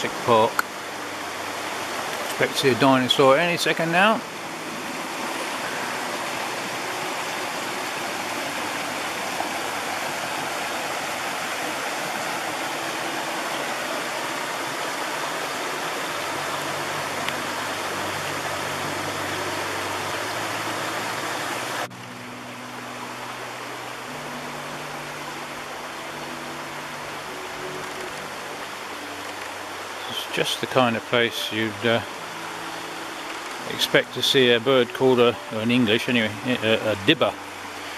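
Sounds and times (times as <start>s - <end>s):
river rushing over stones: 0.0s - 37.9s.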